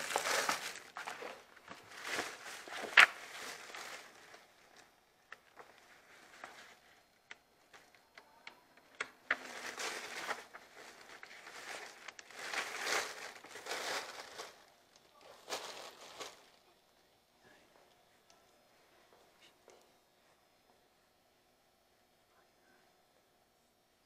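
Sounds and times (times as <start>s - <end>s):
rustling and crinkling: 0.0s - 20.9s.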